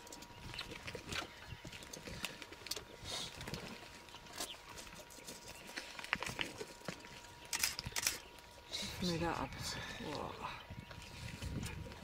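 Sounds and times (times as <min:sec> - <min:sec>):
lions crunching and chewing: 0:00.0 - 0:09.3, 0:10.2 - 0:12.0.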